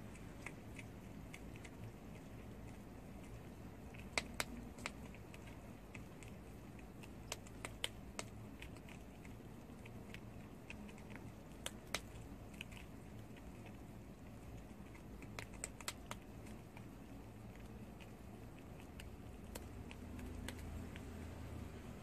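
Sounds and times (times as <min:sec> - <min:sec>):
animal gnawing with teeth clicks: 0:00.0 - 0:21.3.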